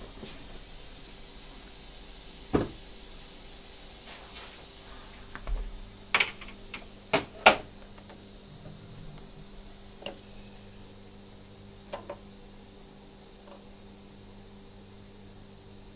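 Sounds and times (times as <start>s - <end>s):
faint steady hum: 0.0s - 15.9s
thin high whine: 0.0s - 15.9s.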